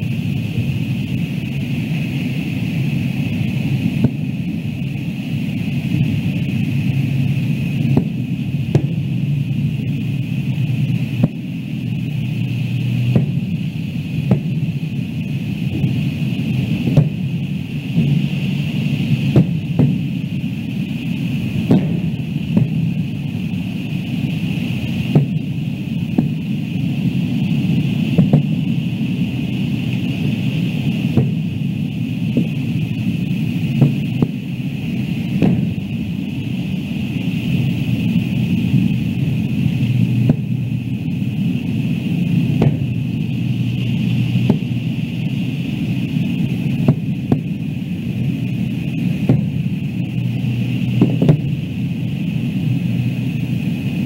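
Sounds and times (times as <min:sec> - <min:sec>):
fireworks booming: 0:00.0 - 0:53.8
low rumble: 0:00.0 - 0:54.0
thin steady hiss: 0:00.0 - 0:54.0.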